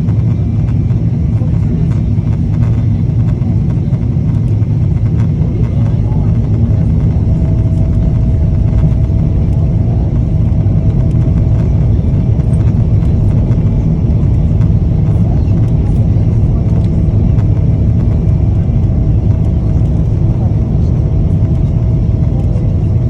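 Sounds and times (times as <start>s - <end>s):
vehicle low rumble: 1.4s - 23.0s.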